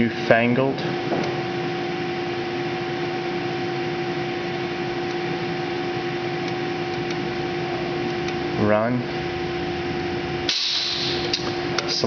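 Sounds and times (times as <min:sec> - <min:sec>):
milling machine whir and hum: 0:00.0 - 0:12.0.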